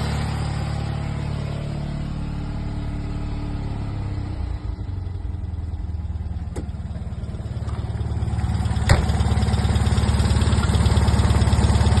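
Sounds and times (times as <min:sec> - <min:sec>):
two-cylinder engine running: 0:00.0 - 0:12.0.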